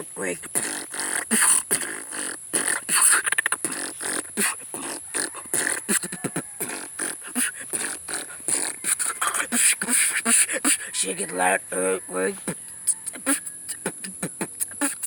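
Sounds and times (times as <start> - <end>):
beatboxing: 0.0 - 15.0.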